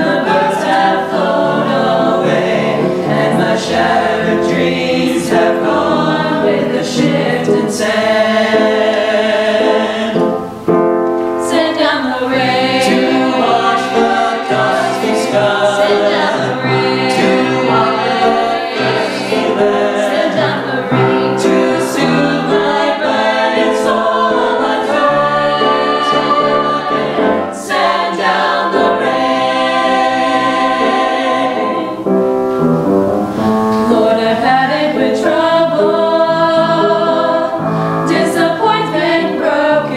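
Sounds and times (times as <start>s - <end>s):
mixed choir singing: 0.0s - 10.6s, 11.4s - 32.2s, 33.8s - 39.9s.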